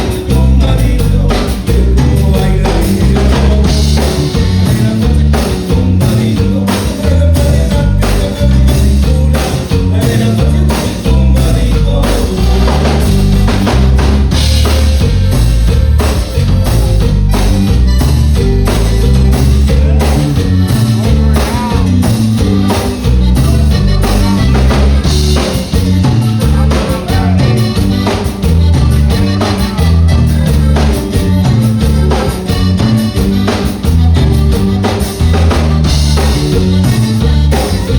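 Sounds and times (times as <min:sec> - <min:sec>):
band playing live: 0:00.0 - 0:37.9
bass line: 0:00.0 - 0:37.9
drum-kit beat: 0:00.0 - 0:37.9
guitar: 0:00.0 - 0:37.9.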